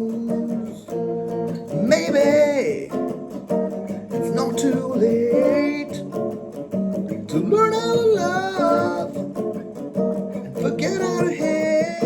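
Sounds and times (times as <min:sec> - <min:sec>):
electric guitar rock riff: 0:00.0 - 0:12.0.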